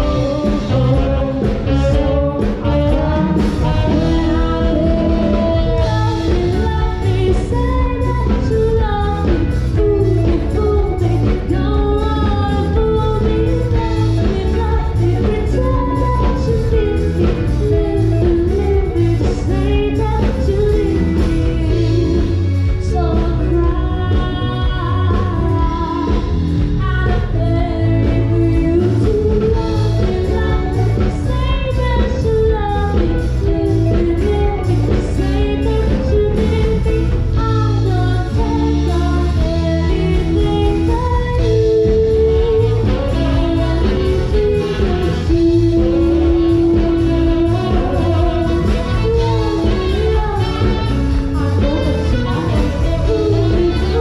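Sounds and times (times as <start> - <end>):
live pop band playing: 0.0 - 54.0
woman singing: 0.0 - 54.0.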